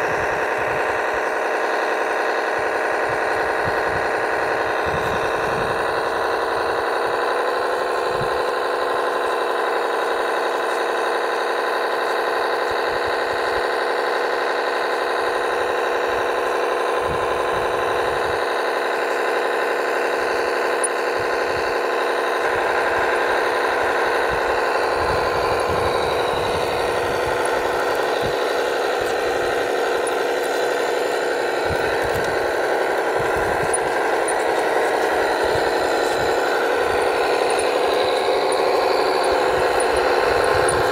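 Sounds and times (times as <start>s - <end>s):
model truck motor whine: 0.0s - 40.9s.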